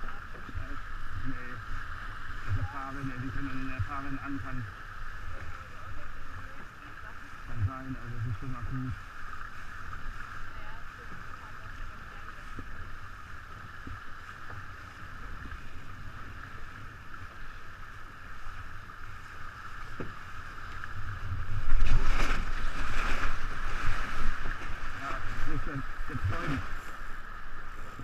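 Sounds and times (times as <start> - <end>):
water rushing past boat: 0.0 - 28.0
wind rumbling on microphone: 0.0 - 28.0.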